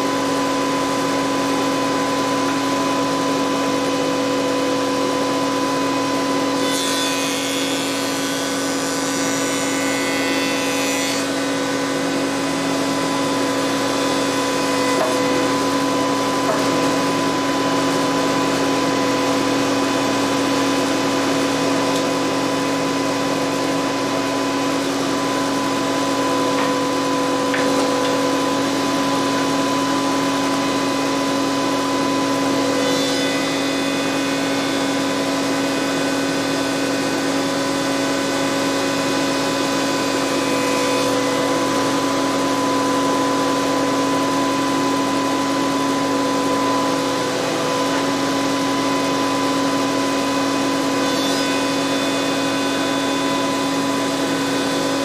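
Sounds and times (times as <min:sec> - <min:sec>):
spindle shaper machine hum: 0:00.0 - 0:55.0.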